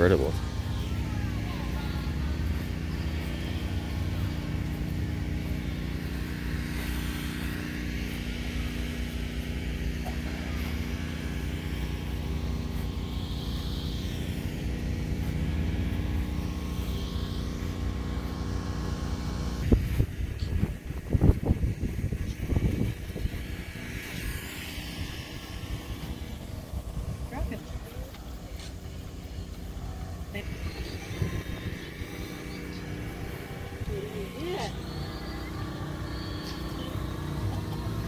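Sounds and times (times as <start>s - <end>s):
engine drone: 0.0s - 38.0s.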